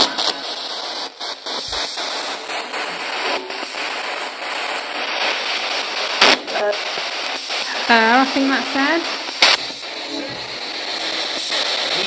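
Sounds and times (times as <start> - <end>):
radio static hissing: 0.0 - 12.0.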